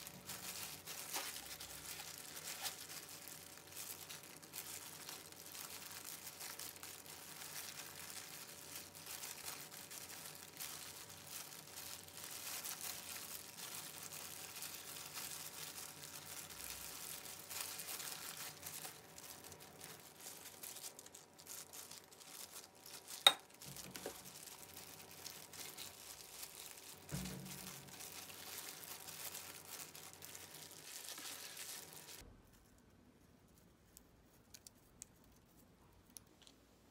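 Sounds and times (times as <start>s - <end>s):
plastic gloves crinkling: 0.0s - 36.9s.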